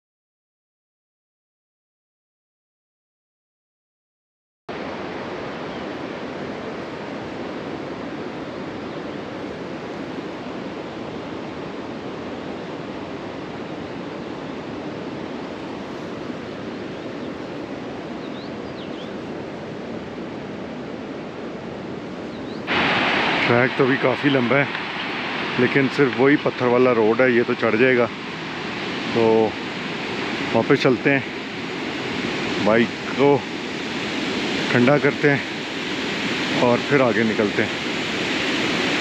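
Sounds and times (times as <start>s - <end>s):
steady rushing outdoor noise: 4.7s - 39.0s.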